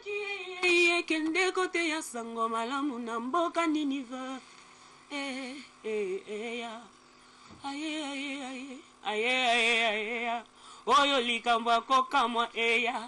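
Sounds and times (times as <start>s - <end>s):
woman singing unaccompanied: 0.0s - 4.5s, 5.1s - 7.0s, 7.6s - 13.0s.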